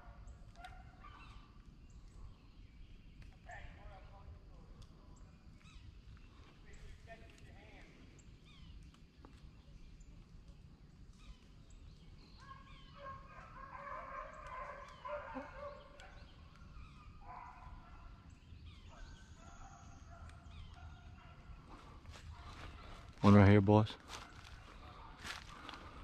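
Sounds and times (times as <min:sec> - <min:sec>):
birds chirping and calling: 0:05.1 - 0:26.0.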